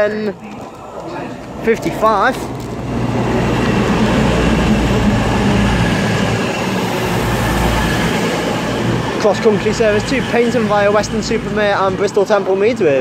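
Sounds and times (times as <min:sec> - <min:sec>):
diesel train engine drone: 0:00.0 - 0:13.0
rail and wheel noise: 0:00.0 - 0:13.0.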